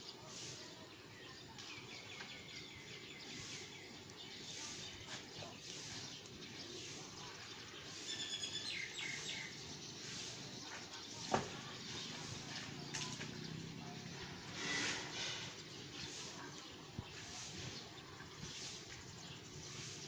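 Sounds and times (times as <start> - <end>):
outdoor background hiss: 0.0 - 20.0
small birds chirping: 0.0 - 20.0.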